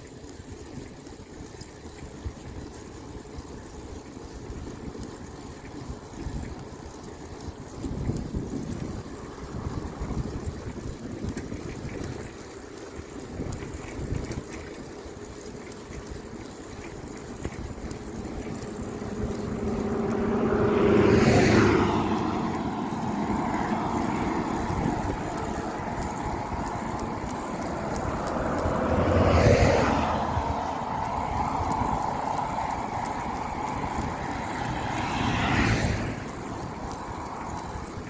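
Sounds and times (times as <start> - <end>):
wind rumbling on microphone: 0.0 - 38.0
motor vehicle passing: 4.3 - 38.0.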